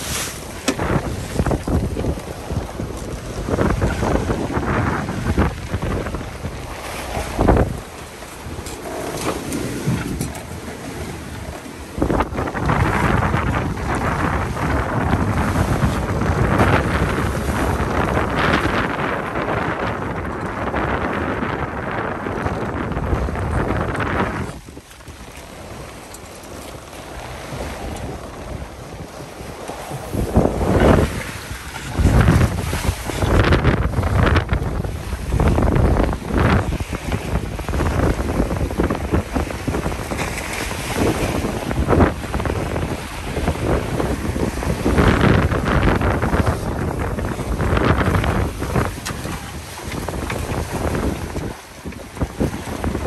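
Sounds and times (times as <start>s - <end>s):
water rushing past hull: 0.0s - 53.0s
wind buffeting microphone: 0.0s - 53.0s.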